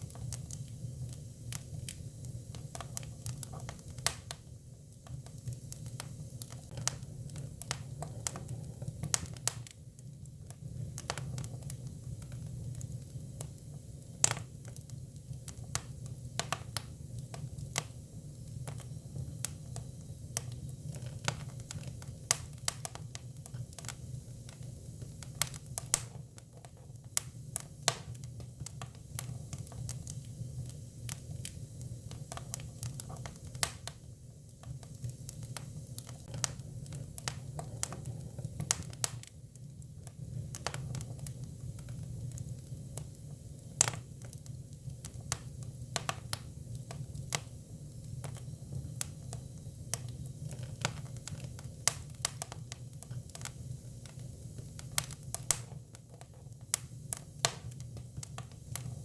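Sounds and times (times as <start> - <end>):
firewood crackling and popping: 0.0 - 59.0
low fire rumble: 0.0 - 59.0.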